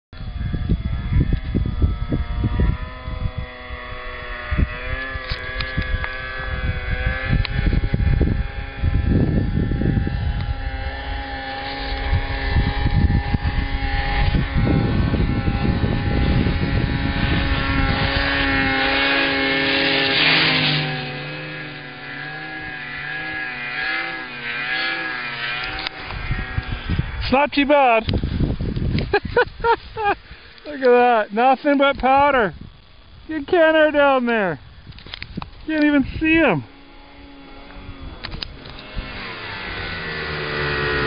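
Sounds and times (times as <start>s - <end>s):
wind buffeting microphone: 0.2s - 30.8s, 31.7s - 41.0s
snowmobile engine running: 0.2s - 32.5s, 35.4s - 41.0s.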